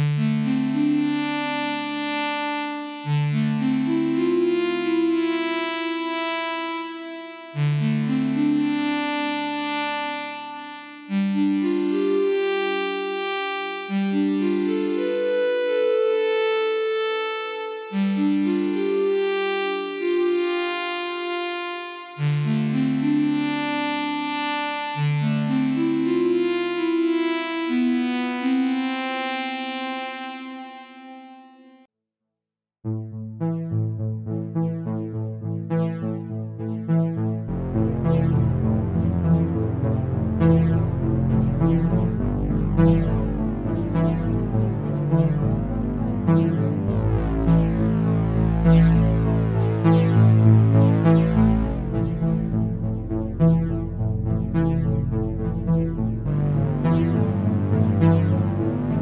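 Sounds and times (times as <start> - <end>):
synthesizer chords: 0.0 - 31.7, 32.9 - 59.0.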